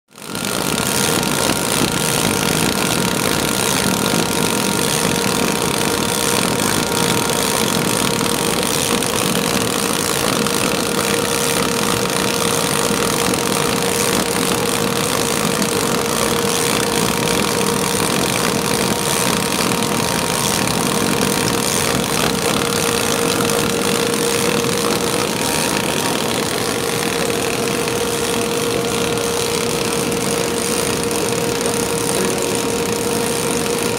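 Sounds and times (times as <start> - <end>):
printing press whirring: 0.2 - 33.9.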